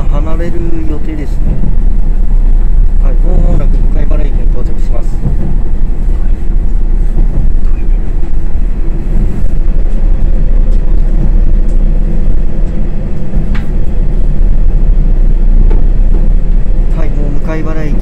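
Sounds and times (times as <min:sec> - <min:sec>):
railcar low rumble: 0:00.0 - 0:18.0.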